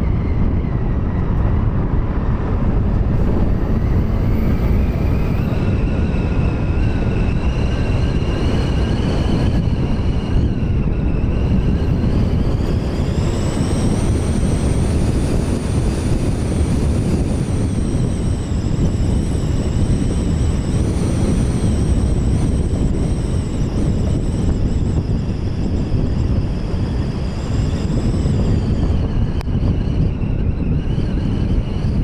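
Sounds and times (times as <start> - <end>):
car engine: 0.0 - 32.0
faint high whine: 0.0 - 32.0.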